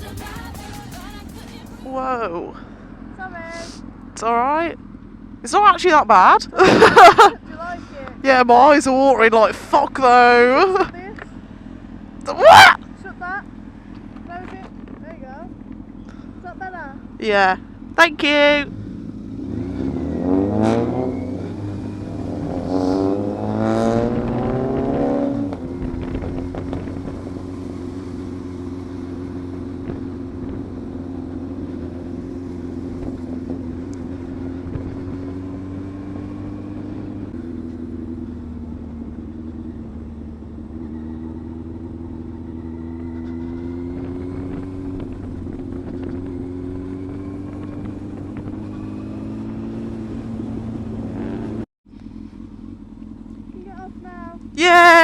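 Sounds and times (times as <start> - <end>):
motorcycle engine revving: 0.0 - 54.6.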